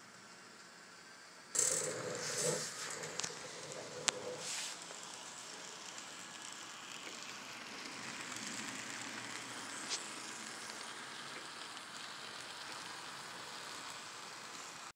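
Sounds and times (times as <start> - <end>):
model trains running on track: 0.0 - 14.9.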